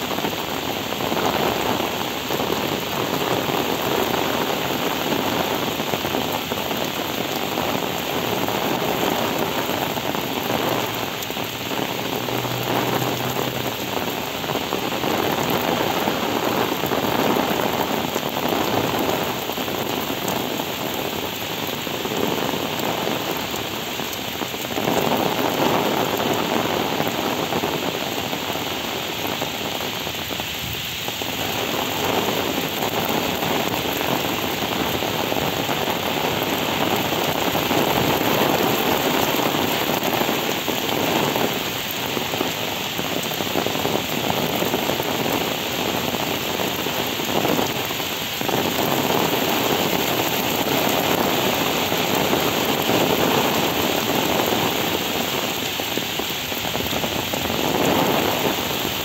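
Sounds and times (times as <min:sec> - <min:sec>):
heavy rain on wet pavement: 0:00.0 - 0:59.0.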